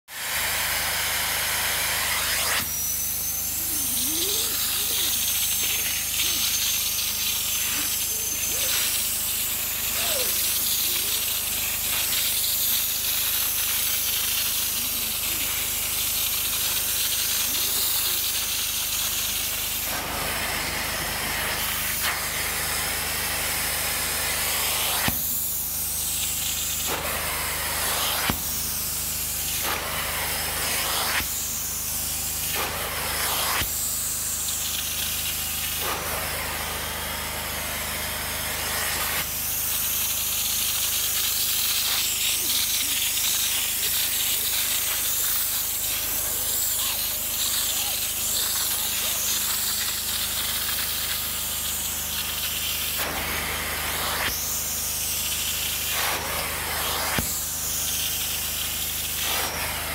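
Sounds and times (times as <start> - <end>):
steam cleaner hissing and sucking: 0.0 - 59.9.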